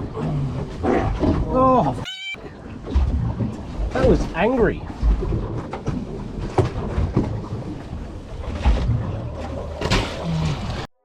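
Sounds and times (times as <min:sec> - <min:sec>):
water noise: 0:00.0 - 0:10.9.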